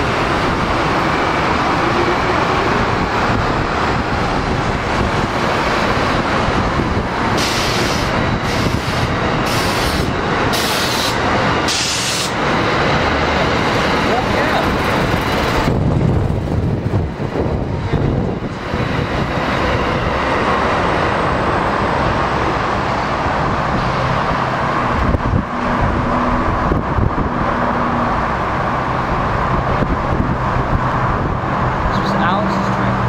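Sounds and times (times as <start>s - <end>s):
low train hum: 0.0s - 33.0s
train wheels rushing on rails: 0.0s - 33.0s.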